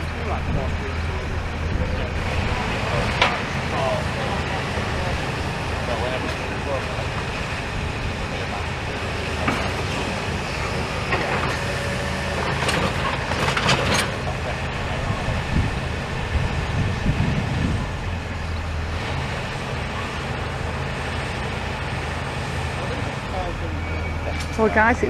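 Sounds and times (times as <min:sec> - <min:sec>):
demolition machine engine running: 0:00.0 - 0:25.0.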